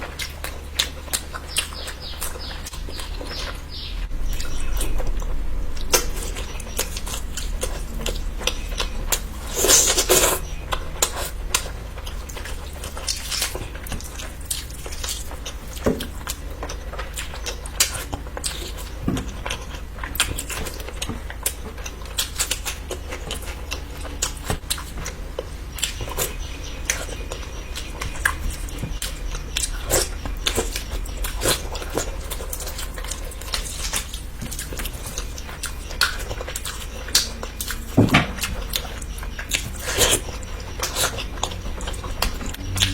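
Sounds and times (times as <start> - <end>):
wet chewing: 0.0 - 42.9.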